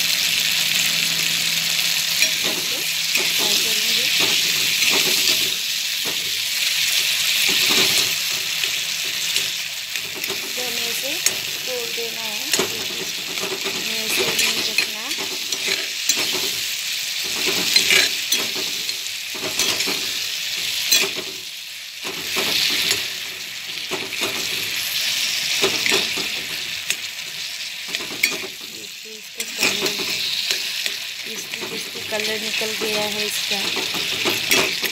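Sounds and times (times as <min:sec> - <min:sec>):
vegetables sizzling in oil: 0:00.0 - 0:34.9
metal spatula scraping a pan: 0:02.0 - 0:21.4, 0:22.0 - 0:34.9.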